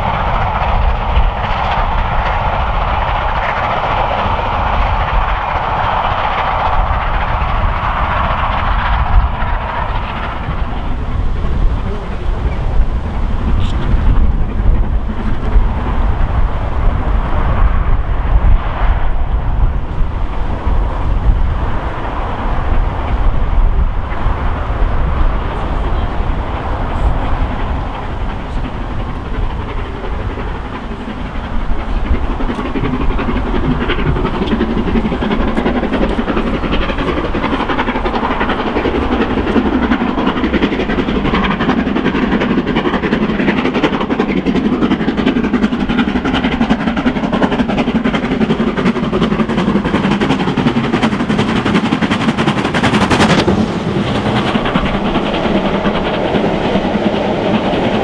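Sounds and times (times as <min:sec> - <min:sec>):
steam locomotive exhaust beats: 0:00.0 - 0:58.0
train running on rails: 0:00.0 - 0:58.0.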